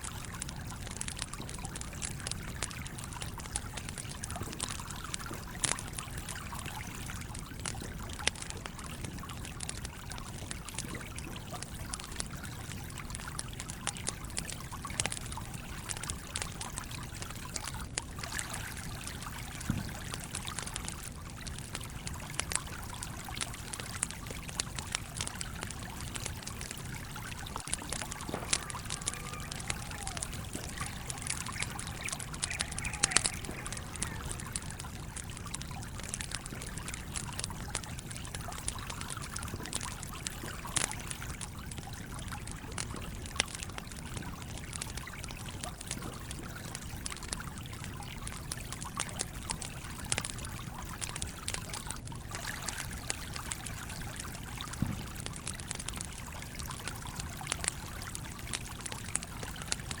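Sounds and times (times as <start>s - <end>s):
campfire crackling and popping: 0.0s - 60.0s
stream trickling: 0.0s - 60.0s.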